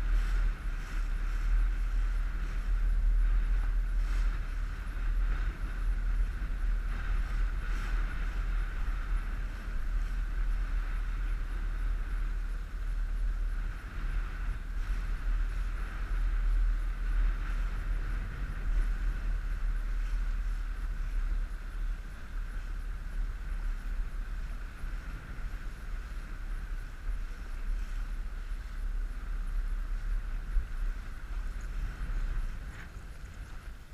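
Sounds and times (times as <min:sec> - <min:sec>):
outboard motor droning: 0:00.0 - 0:33.9
wind buffeting microphone: 0:00.0 - 0:33.9.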